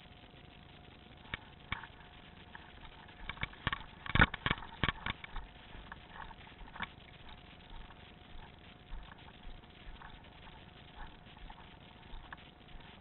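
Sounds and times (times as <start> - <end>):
faint steady hum: 0.0 - 13.0
sharp clicks and knocks: 1.3 - 13.0.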